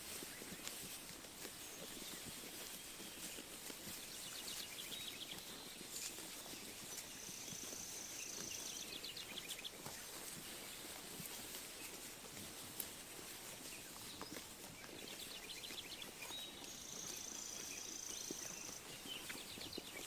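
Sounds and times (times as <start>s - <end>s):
sheep tearing and chewing grass: 0.0s - 20.0s
small birds chirping: 0.1s - 11.2s, 13.6s - 20.0s.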